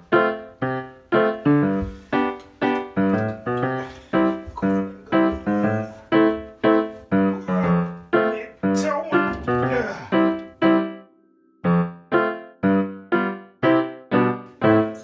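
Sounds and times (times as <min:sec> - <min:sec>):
piano single notes: 0:00.0 - 0:15.0.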